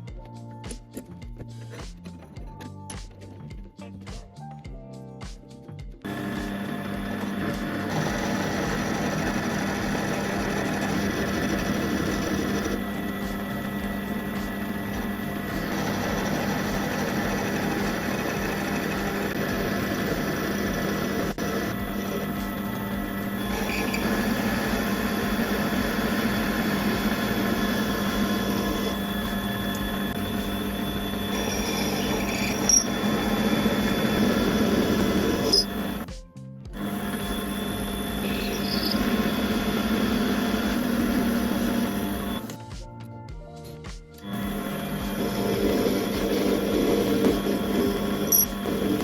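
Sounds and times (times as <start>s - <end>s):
power tool motor humming: 6.0s - 36.1s, 36.8s - 42.6s, 44.2s - 49.0s.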